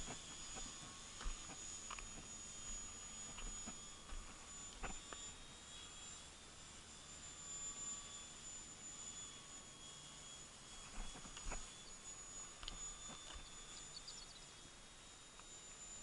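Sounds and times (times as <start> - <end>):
distant model plane motor whine: 0.0 - 16.0.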